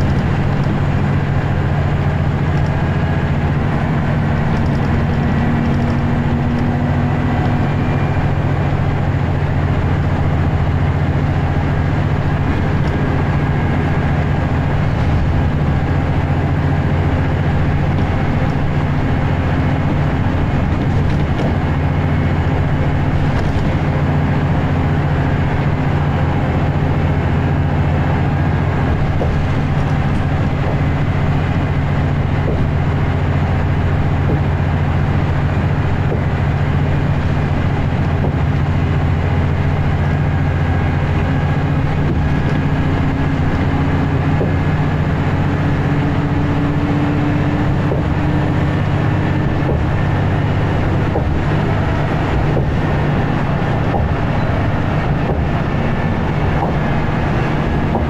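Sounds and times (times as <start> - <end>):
bus diesel engine drone: 0.0 - 58.0
road and tyre noise: 0.0 - 58.0.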